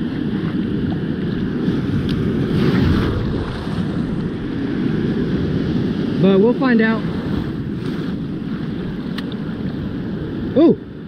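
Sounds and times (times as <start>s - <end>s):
shallow surf washing: 0.0s - 11.0s
wind buffeting microphone: 0.0s - 11.0s.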